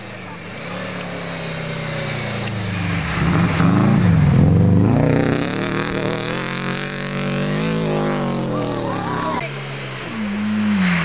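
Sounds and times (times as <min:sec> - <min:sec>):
rally car engine passing: 0:00.0 - 0:11.0.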